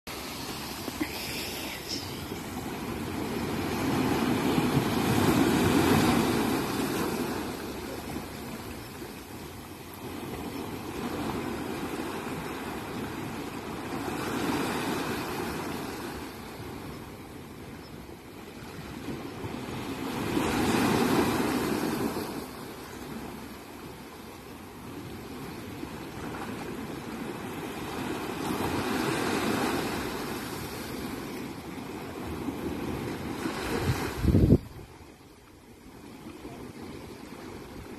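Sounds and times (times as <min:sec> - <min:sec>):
waves breaking on a beach: 0:00.1 - 0:37.9.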